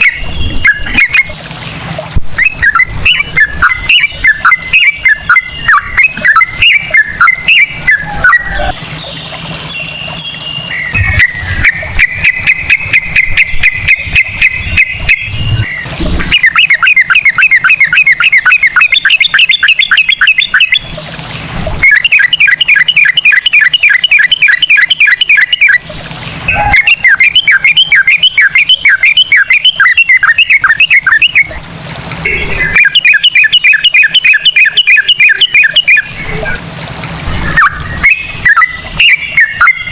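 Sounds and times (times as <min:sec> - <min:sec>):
bulbul singing: 0:00.0 - 0:31.6, 0:32.2 - 0:36.6, 0:37.2 - 0:39.9.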